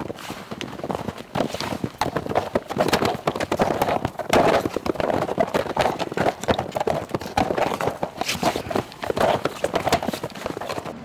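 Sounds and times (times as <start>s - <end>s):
hooves crunching in snow: 0.0s - 11.0s.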